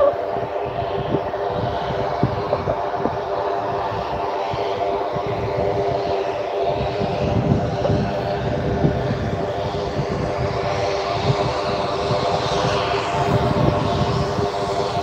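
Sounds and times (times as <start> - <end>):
aircraft engine and propeller: 0.0 - 15.0
wind rumbling on microphone: 0.0 - 15.0.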